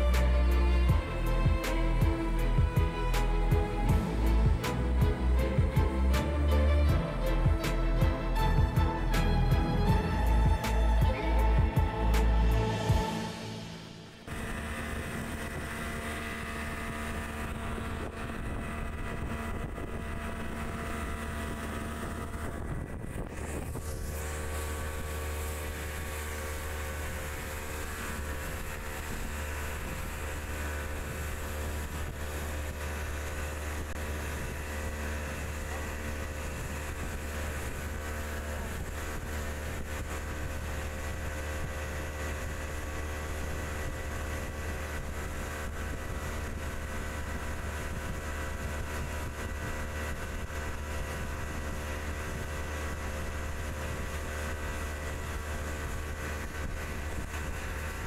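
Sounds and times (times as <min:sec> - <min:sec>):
outboard engine running: 0:00.0 - 0:58.0
water rushing along hull: 0:01.7 - 0:58.0.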